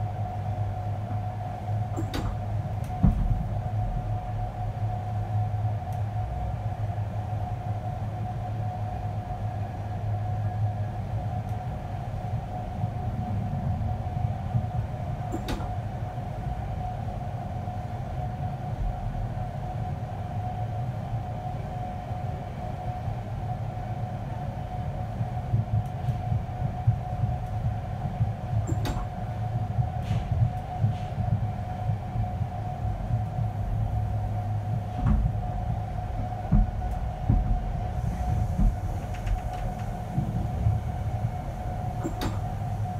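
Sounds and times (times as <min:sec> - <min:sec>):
mid-pitched hum: 0:00.0 - 0:42.9
train wheels rumbling on rail: 0:00.0 - 0:42.9.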